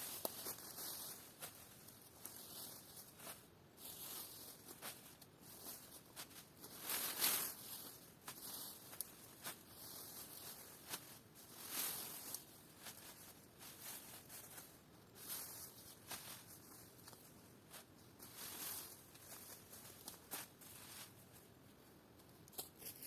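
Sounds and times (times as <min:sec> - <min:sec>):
rustling and crunching: 0:00.0 - 0:23.0.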